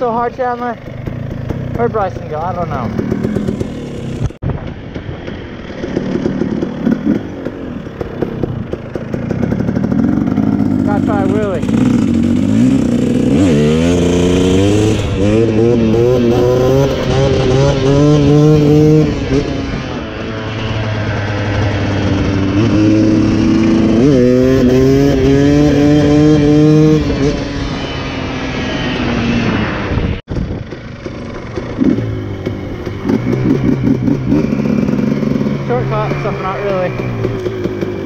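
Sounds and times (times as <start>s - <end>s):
dirt bike engine accelerating: 0.0s - 38.0s
wind noise: 2.0s - 10.0s, 11.2s - 38.0s.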